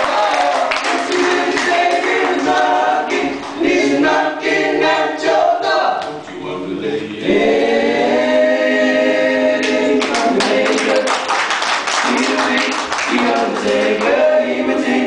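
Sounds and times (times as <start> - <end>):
men singing a cappella: 0.0 - 11.3, 12.0 - 15.0.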